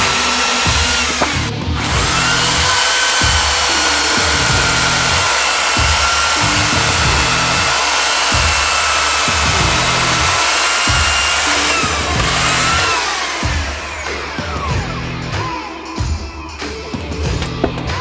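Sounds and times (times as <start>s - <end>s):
electric chainsaw cutting log: 0.0s - 15.8s
background music with beat: 0.0s - 18.0s.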